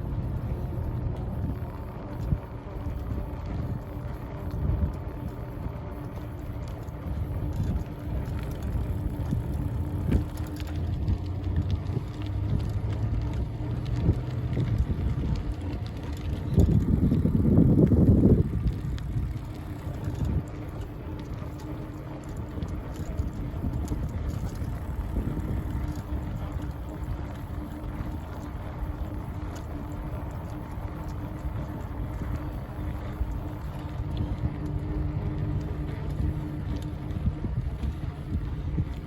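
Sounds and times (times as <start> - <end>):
bicycle ride rumble: 0.0 - 39.0
faint steady hum: 0.0 - 39.0.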